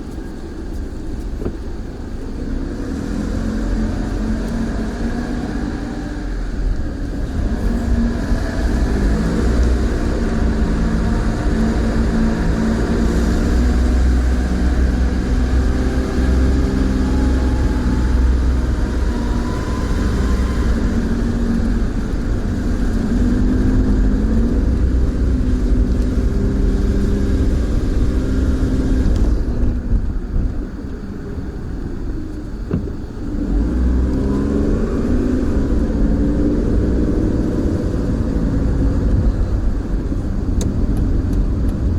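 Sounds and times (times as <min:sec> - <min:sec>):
car engine from inside cabin: 0:00.0 - 0:41.9
road noise: 0:00.0 - 0:41.9.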